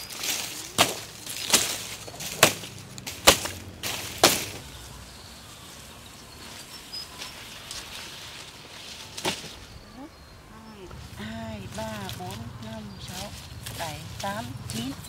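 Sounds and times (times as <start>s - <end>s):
sugarcane stalks clacking: 0.0s - 5.4s, 6.3s - 9.8s, 10.9s - 15.0s.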